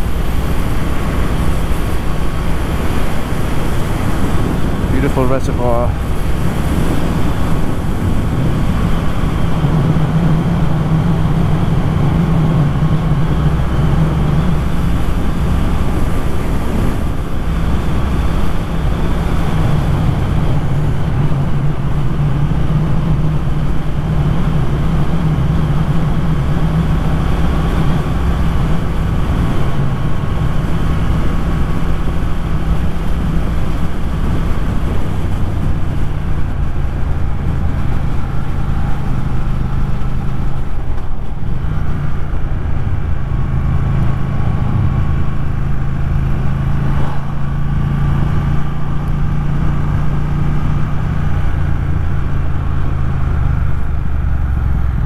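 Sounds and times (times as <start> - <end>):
motorcycle engine running: 0.0 - 55.0
wind rushing past microphone: 0.0 - 55.0.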